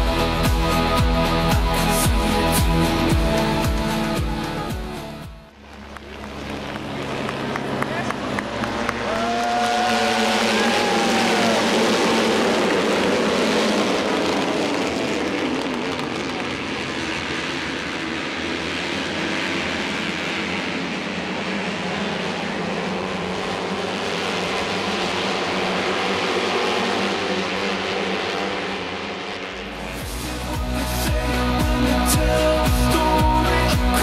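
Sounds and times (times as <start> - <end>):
racing motorcycle engines roaring: 0.0 - 34.0.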